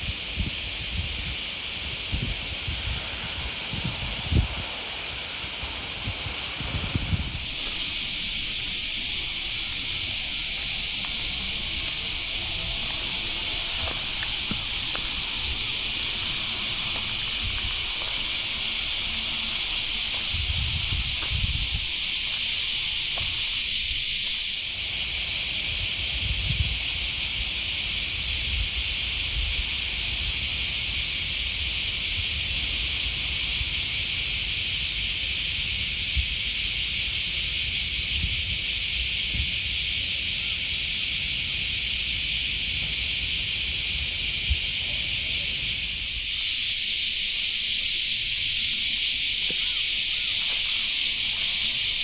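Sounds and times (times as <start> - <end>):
high-pitched hiss: 0.0 - 52.0.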